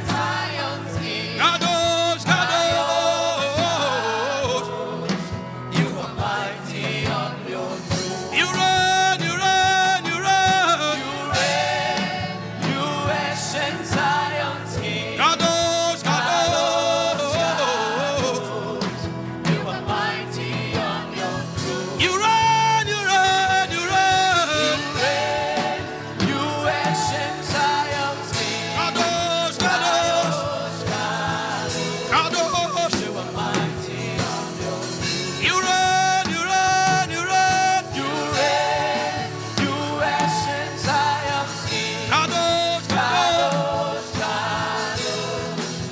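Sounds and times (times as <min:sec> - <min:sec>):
backing band: 0:00.0 - 0:45.9.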